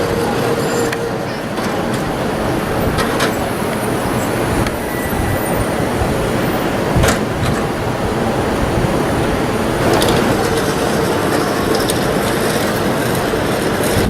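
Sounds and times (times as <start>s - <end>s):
tram wheels rumbling on boardwalk: 0.0s - 14.0s.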